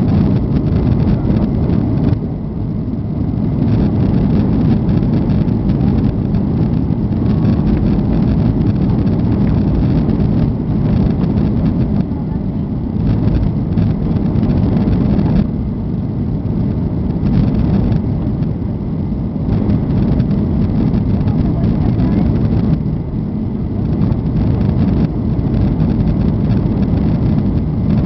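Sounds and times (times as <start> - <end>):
jet airliner cabin rumble: 0.0 - 28.0.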